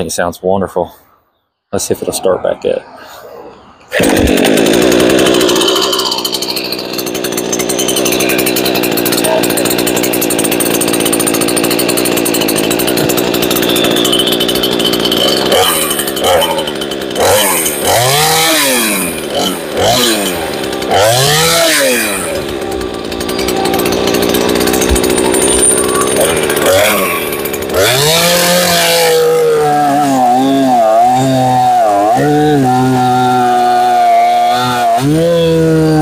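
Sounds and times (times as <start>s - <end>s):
chainsaw idling and revving: 3.9s - 36.0s.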